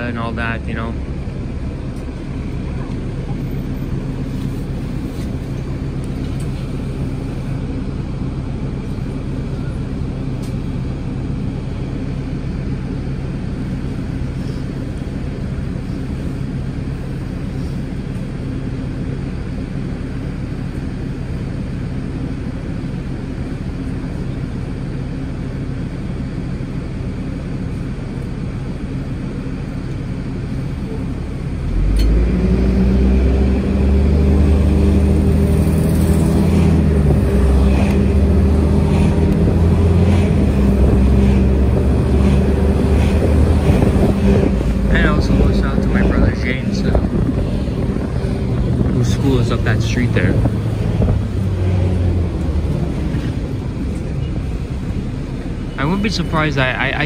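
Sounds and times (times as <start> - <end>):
bus diesel engine idling: 0.0 - 57.0.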